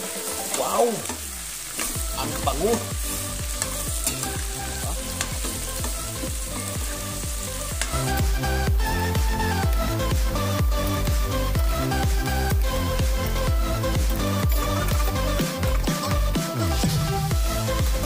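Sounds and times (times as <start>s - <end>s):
background music with low beat: 0.0s - 18.0s
meat sizzling in a frying pan: 0.0s - 18.0s.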